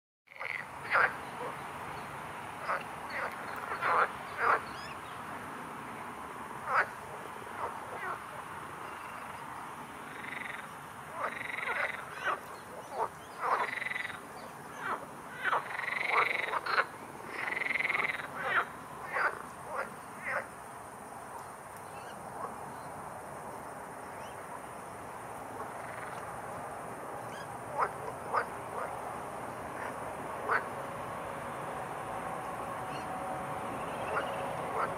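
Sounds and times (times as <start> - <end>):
frogs croaking: 0.3 - 34.9.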